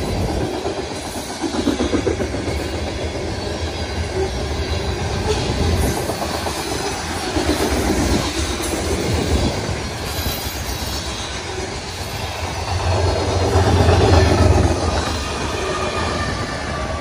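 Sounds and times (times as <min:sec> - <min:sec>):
diesel locomotive drone: 0:00.0 - 0:17.0
train wheels rolling on rails: 0:00.0 - 0:17.0.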